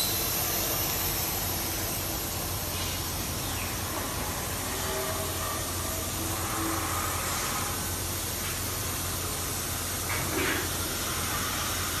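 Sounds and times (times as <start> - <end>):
low machine hum: 0.0 - 12.0
machine hiss: 0.0 - 12.0.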